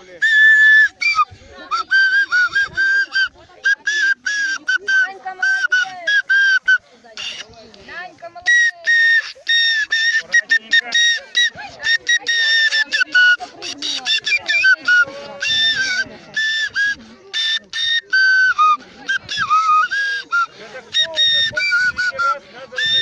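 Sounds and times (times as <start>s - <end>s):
voices: 0.0s - 23.0s
high-pitched whistle tune: 0.2s - 7.5s, 8.4s - 23.0s.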